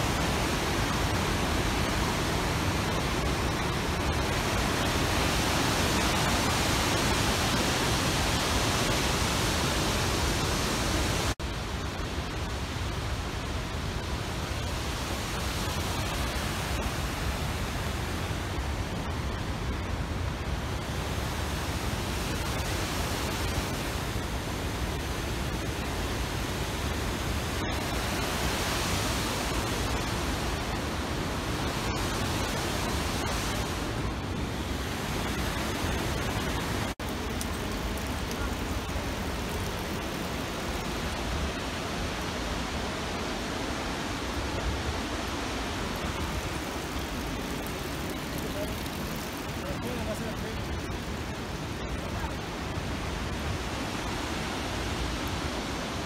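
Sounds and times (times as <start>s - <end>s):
rushing flowing water: 0.0s - 56.0s.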